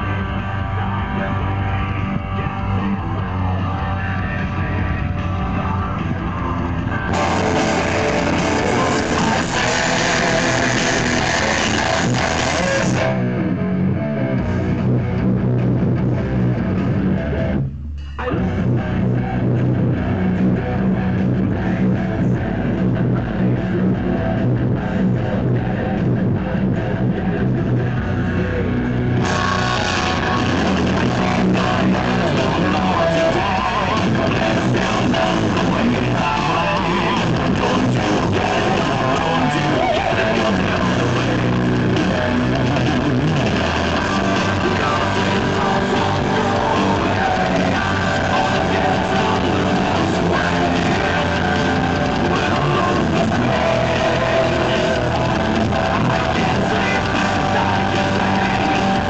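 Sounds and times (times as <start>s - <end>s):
heavy rock electric guitar: 0.0s - 59.0s.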